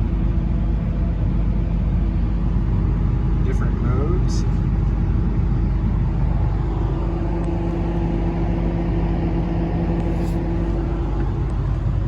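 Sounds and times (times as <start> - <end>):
excavator diesel engine rumbling: 0.0 - 12.0
steady hum: 0.0 - 12.0.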